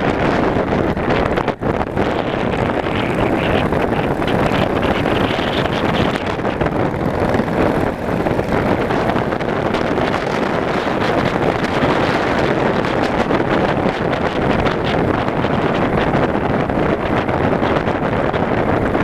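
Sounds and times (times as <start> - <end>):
motorcycle engine: 0.0 - 19.0
road noise: 0.0 - 19.0
wind on microphone: 0.0 - 19.0.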